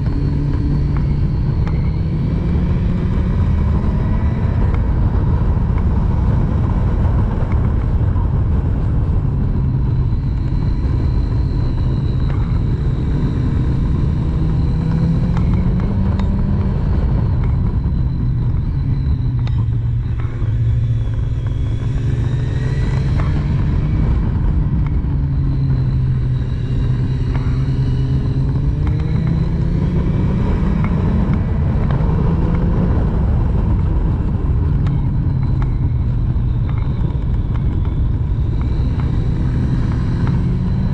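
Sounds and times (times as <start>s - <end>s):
motorcycle engine revving: 0.0s - 40.9s
riding noise rush: 0.0s - 40.9s.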